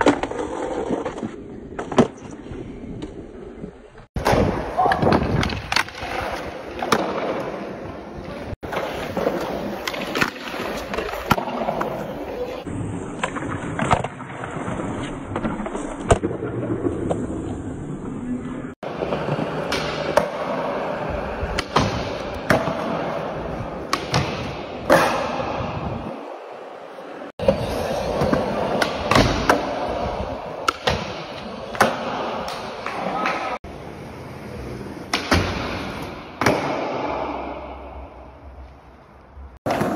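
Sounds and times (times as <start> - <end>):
skateboard wheels rolling on concrete: 0.0 - 39.9.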